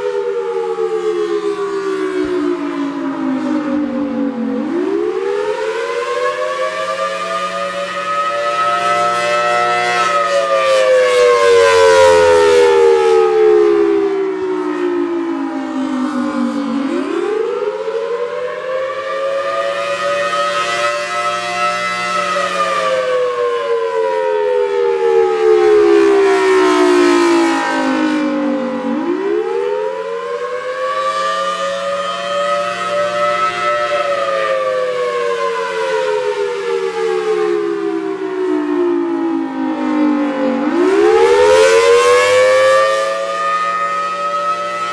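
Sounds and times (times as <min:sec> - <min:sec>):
outdoor warning siren wailing: 0:00.0 - 0:44.9.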